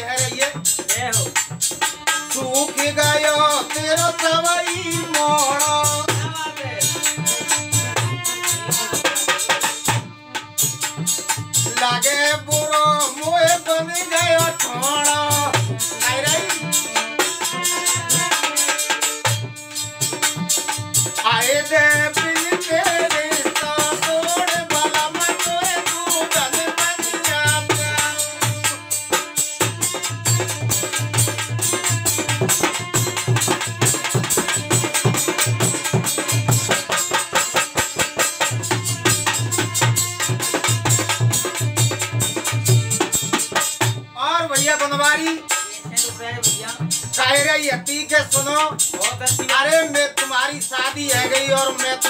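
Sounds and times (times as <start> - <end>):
hand drum beating rhythm: 0.0 - 52.0
harmonium: 0.0 - 52.0
man singing: 0.0 - 52.0.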